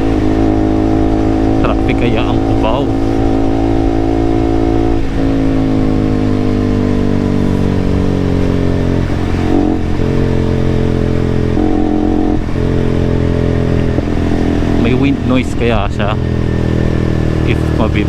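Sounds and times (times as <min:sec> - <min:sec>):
wind noise on microphone: 0:00.0 - 0:15.3
motorcycle engine running: 0:00.0 - 0:18.0.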